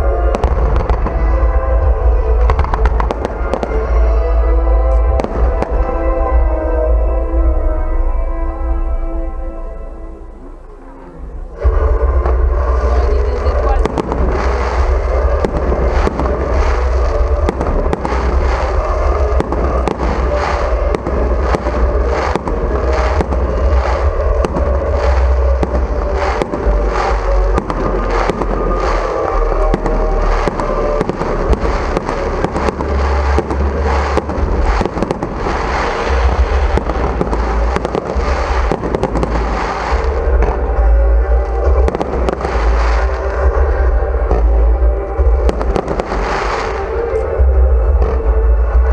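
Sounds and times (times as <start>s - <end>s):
fireworks bursting: 0.0s - 8.8s, 10.2s - 48.9s
music playing: 0.0s - 48.9s.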